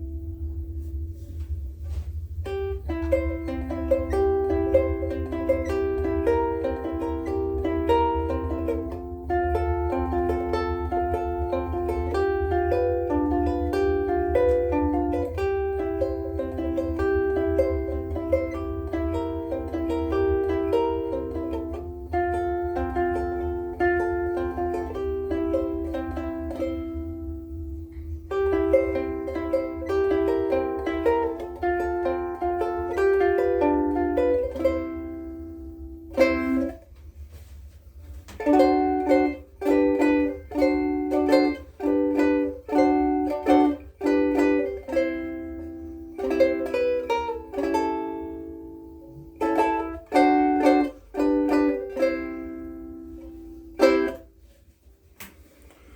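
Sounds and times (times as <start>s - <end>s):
ukulele picked notes and chords: 0.0s - 55.9s
ukulele strummed chords: 0.0s - 55.9s.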